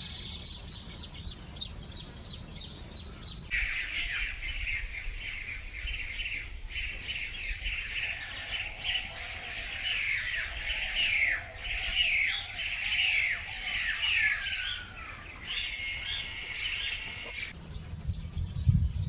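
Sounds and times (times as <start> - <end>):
birds chattering: 0.0 - 19.0.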